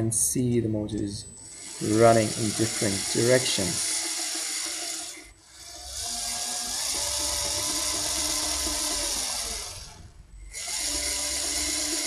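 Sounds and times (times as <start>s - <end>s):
toy servo motors whirring: 1.4s - 12.0s.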